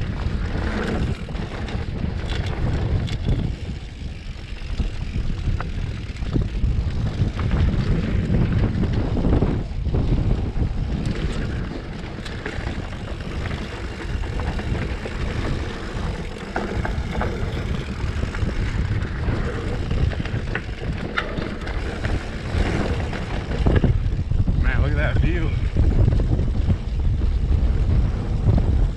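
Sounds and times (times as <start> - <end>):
tyres on dirt and gravel: 0.0 - 27.5
bike rattling over bumps: 0.0 - 28.9
wind rushing over microphone: 0.0 - 28.9.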